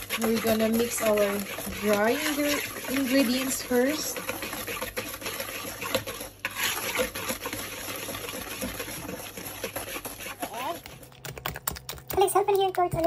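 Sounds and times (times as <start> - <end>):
whisk scraping a bowl: 0.0 - 11.2.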